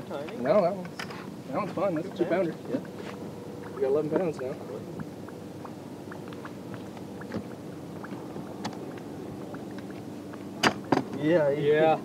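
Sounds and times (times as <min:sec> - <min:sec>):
low equipment hum: 0:00.8 - 0:12.0.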